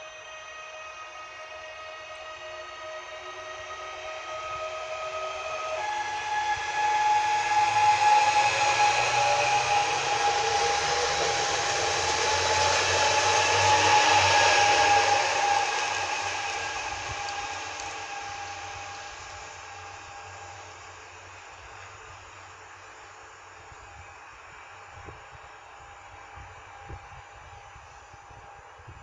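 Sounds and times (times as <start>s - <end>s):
electric train motor whine: 0.0s - 29.0s
wheel-on-rail noise: 0.0s - 29.0s.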